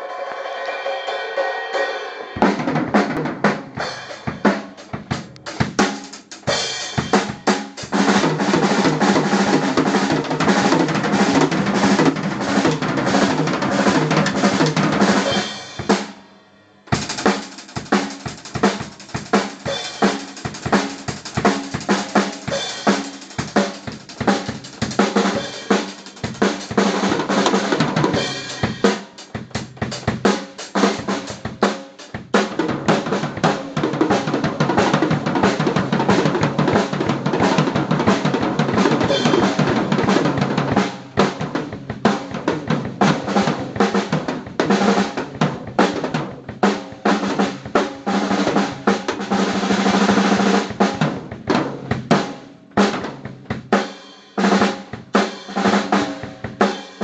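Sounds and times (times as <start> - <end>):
acoustic drum kit played hard: 0.0 - 57.0.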